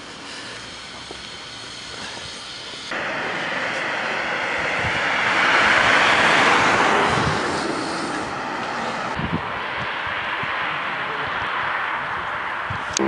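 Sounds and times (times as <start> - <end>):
traffic hiss: 0.0 - 13.0
vehicle passing: 0.0 - 13.0.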